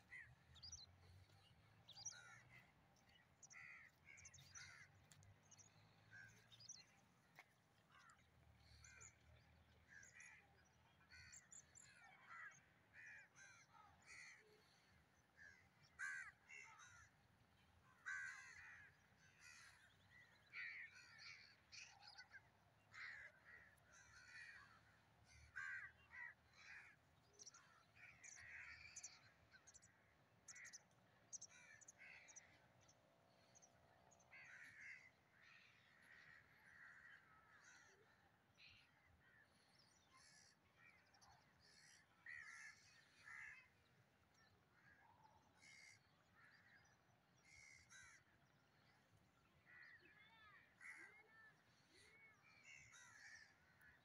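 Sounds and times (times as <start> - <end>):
crows cawing faintly: 0.0 - 54.0.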